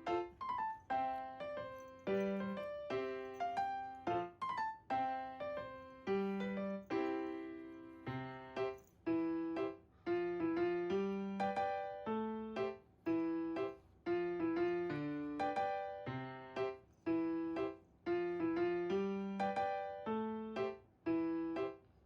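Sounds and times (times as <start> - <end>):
solo piano melody: 0.0 - 21.8.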